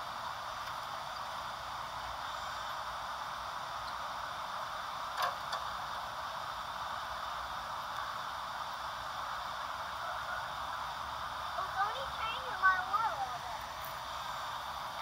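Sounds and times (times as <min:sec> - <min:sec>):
camcorder tape hiss: 0:00.0 - 0:15.0.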